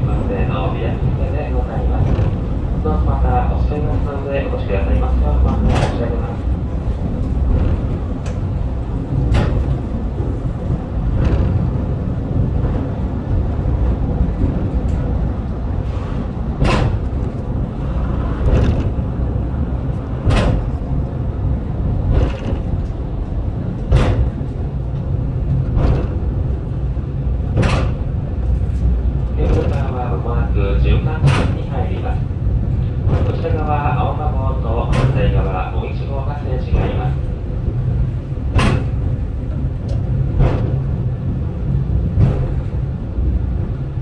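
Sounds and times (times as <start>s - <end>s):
cable car clunks: 0.0s - 44.0s
cable car rumbling: 0.0s - 44.0s.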